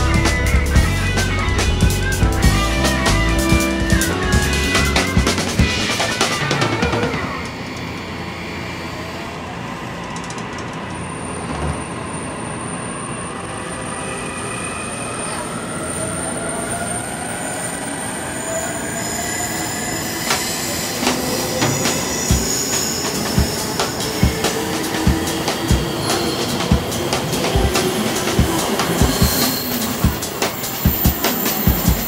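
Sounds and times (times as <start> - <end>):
electric train rumbling on rails: 0.0 - 32.0.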